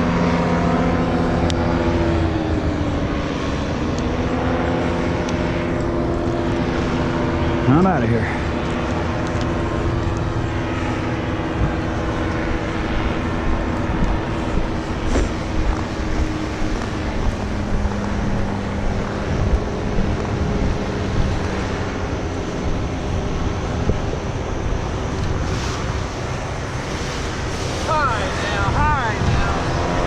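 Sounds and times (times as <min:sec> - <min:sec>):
paramotor engine running: 0:00.0 - 0:30.0
wind noise on microphone: 0:00.0 - 0:30.0.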